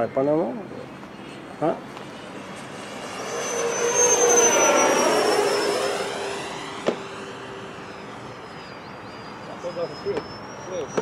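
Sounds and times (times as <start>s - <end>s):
model plane fan whine: 0.4s - 11.0s.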